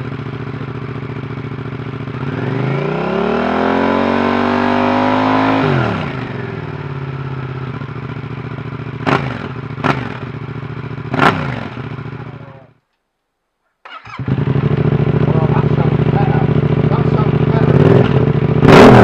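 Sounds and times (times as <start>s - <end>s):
motorcycle engine idling and revving: 0.0s - 12.8s, 13.9s - 19.0s.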